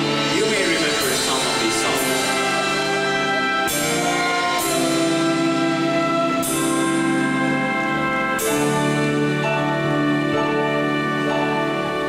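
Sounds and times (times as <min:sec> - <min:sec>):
live band playing ballad: 0:00.0 - 0:12.0.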